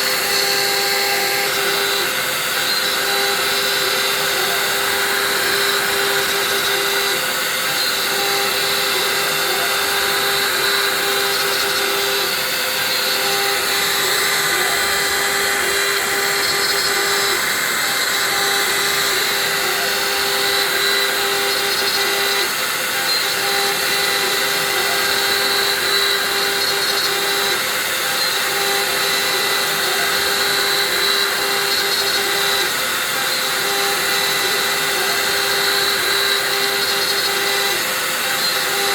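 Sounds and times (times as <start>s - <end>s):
milling machine motor whine: 0.0s - 38.9s.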